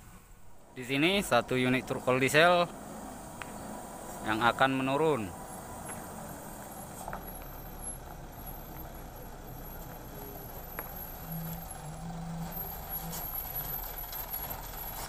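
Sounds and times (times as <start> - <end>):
diesel truck engine running: 0.3 - 15.0.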